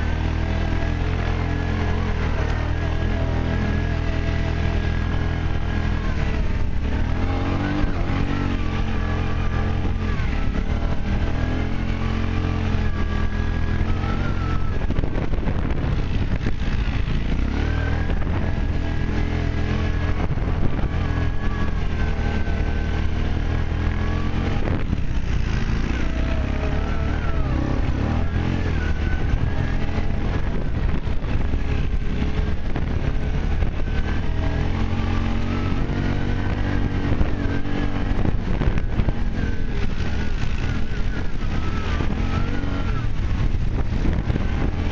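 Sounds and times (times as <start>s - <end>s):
quad bike engine running: 0.0s - 44.9s.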